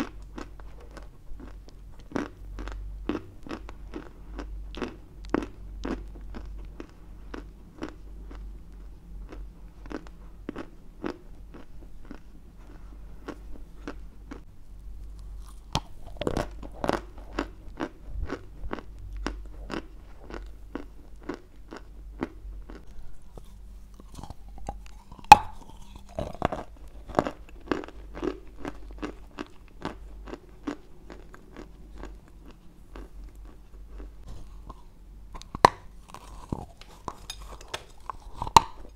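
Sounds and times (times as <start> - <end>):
wet crunches of chewing clay: 0.0 - 38.9.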